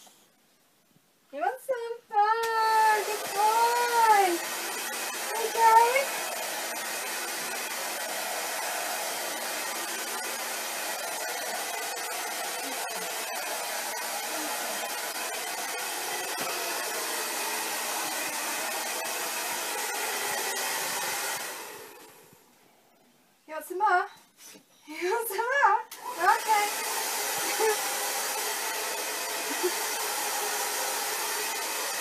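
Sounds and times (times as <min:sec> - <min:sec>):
hair dryer blowing: 0:02.4 - 0:22.4, 0:25.9 - 0:32.0.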